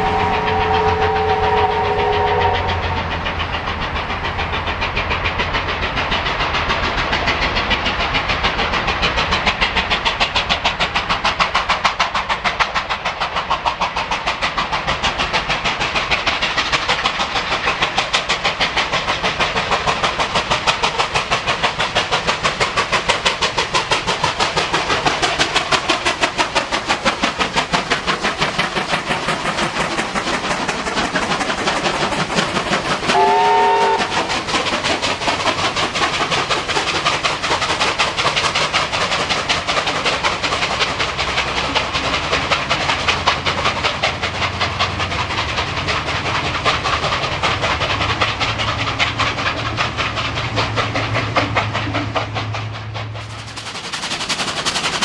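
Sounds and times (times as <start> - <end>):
steam locomotive exhaust beat: 0.0 - 55.0.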